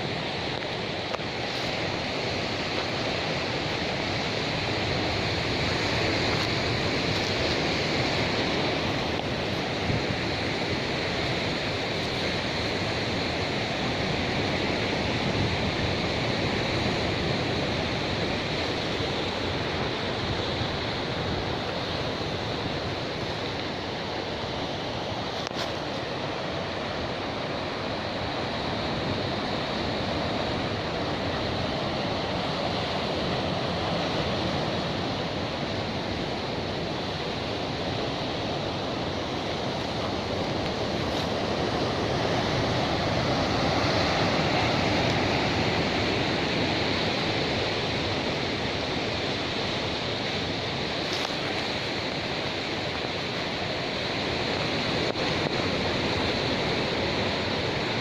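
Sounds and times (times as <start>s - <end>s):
sea surf breaking on beach: 0.0s - 58.0s.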